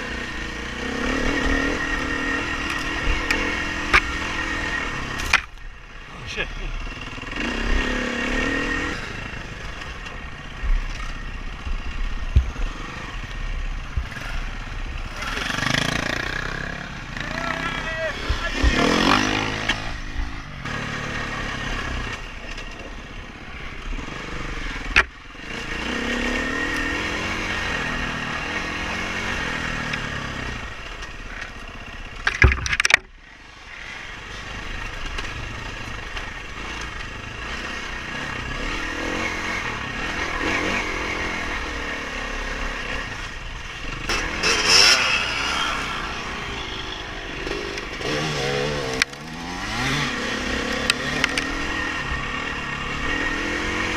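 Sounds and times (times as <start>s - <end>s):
dirt bike engine revving: 0.0s - 30.9s, 33.8s - 53.9s.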